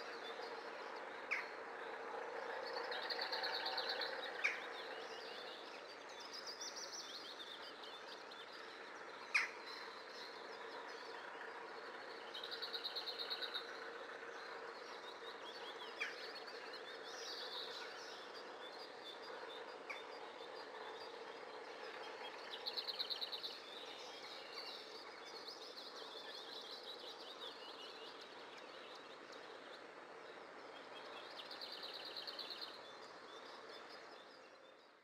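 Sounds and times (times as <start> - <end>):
outdoor background noise: 0.0 - 35.0
songbirds singing: 0.0 - 35.0.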